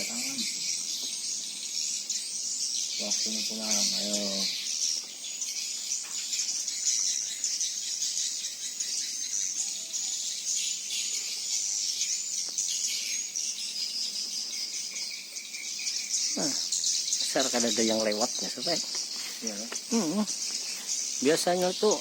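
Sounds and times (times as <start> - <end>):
birds chirping: 0.0 - 22.0
insects chirring: 0.0 - 22.0.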